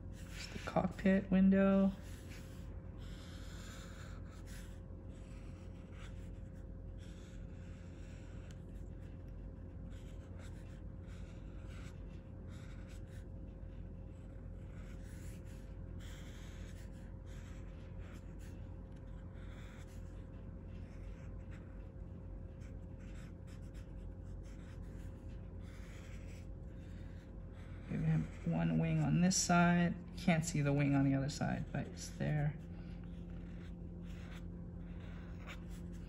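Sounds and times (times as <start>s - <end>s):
marker pen scratching on paper: 0.0s - 36.0s
steady low hum: 0.0s - 36.0s.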